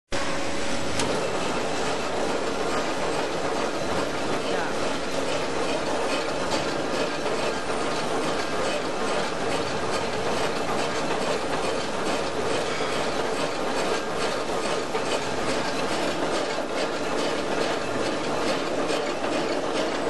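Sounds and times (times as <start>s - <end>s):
machine motor rattling: 0.2s - 20.0s.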